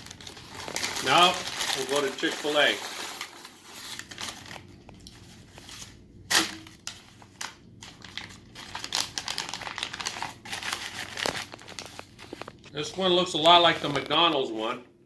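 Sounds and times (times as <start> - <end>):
wrapper crinkling: 0.0 - 14.7.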